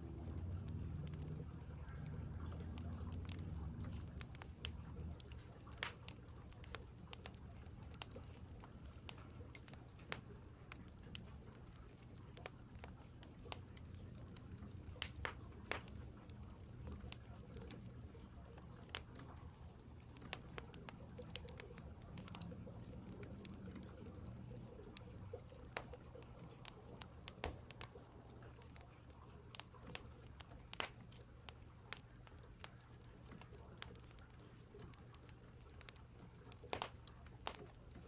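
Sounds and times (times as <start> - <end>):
low background rumble: 0.0 - 38.0
wood fire crackling: 0.0 - 38.0.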